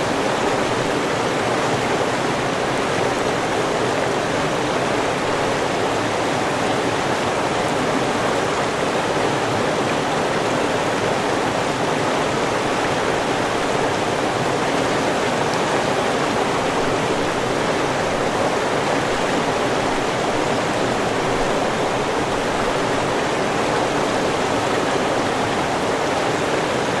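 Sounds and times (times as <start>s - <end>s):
river water rushing and splashing: 0.0s - 27.0s.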